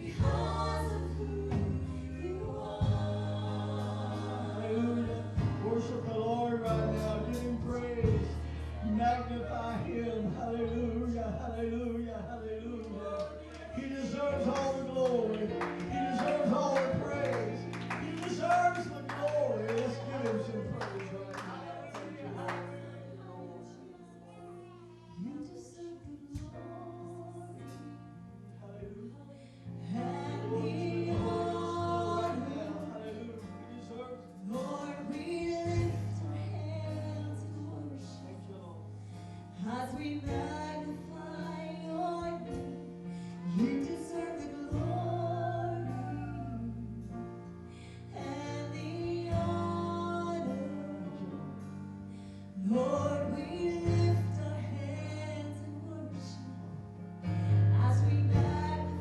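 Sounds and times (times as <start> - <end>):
people singing: 0.0 - 38.8, 39.6 - 47.2, 48.1 - 51.8, 52.6 - 56.5, 57.3 - 59.0.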